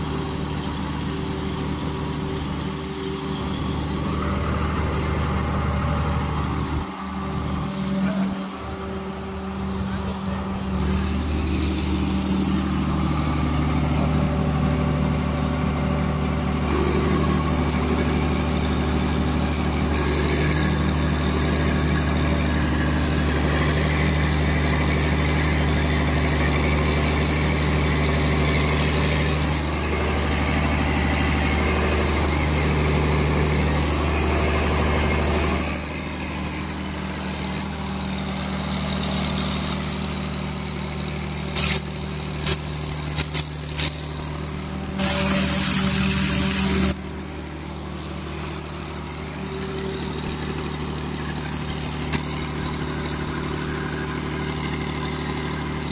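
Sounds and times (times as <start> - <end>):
diesel generator drone: 0.0 - 55.9.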